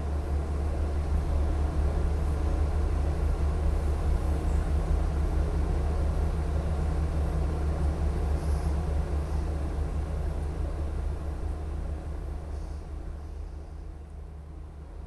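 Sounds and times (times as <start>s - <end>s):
diesel train engine droning: 0.0s - 15.0s.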